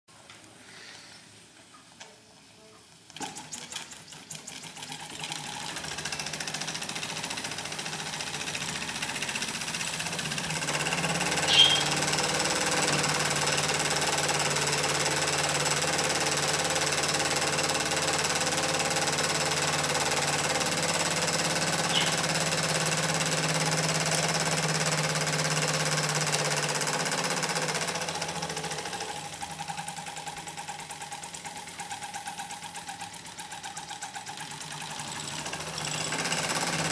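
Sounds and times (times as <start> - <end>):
toy steam engine running: 3.0 - 36.9.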